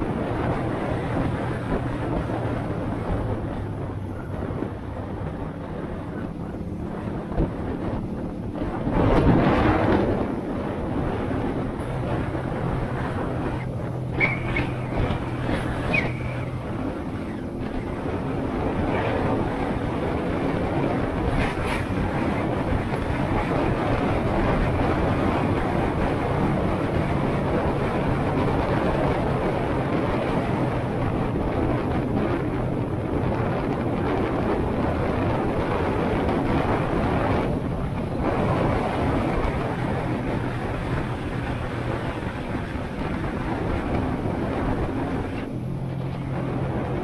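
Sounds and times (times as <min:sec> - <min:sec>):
wind rush on microphone: 0:00.0 - 0:47.0.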